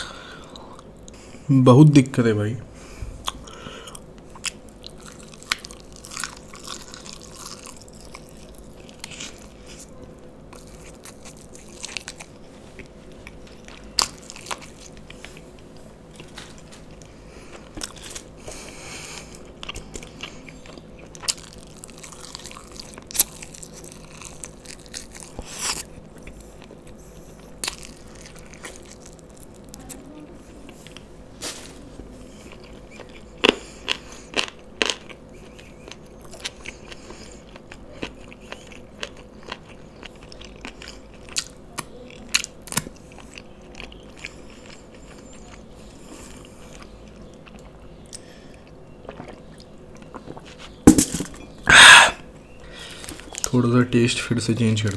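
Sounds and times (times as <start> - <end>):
chewing and crunching: 3.2 - 51.7.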